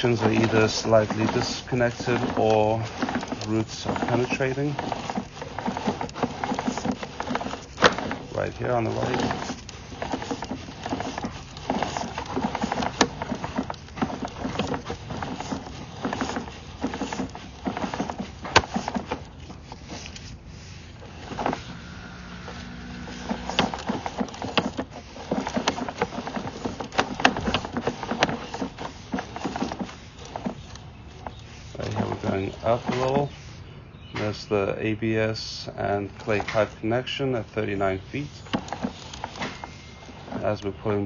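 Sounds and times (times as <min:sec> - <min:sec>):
push cable clicking and knocking: 0:00.0 - 0:20.3, 0:21.0 - 0:33.5, 0:36.1 - 0:40.8.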